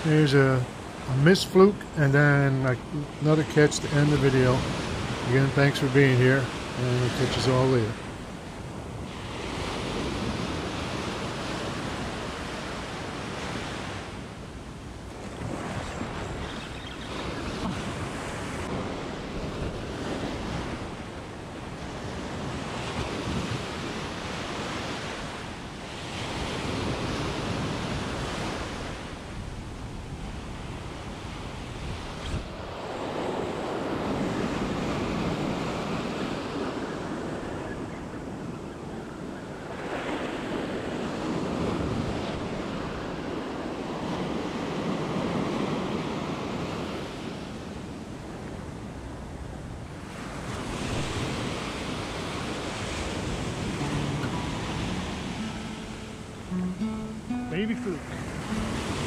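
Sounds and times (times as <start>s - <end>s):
ocean surf breaking: 0.0s - 59.0s
wind buffeting microphone: 4.3s - 43.5s, 48.2s - 56.6s.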